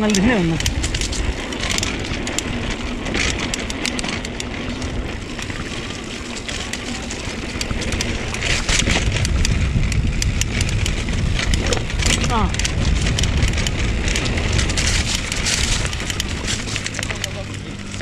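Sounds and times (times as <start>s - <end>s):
bike rattles and ticks: 0.0s - 18.0s
wind rumbling on microphone: 0.0s - 18.0s.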